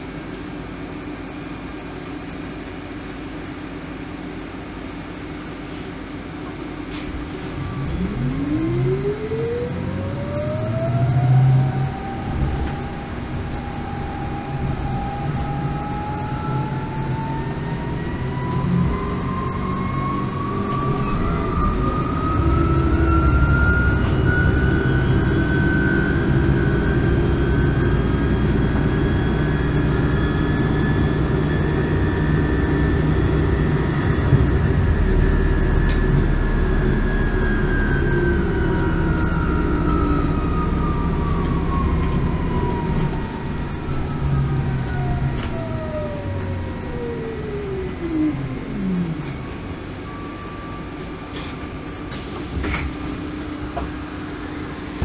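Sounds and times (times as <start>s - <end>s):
bus electric drive whine: 0.0s - 55.0s
bus running rumble: 5.7s - 55.0s.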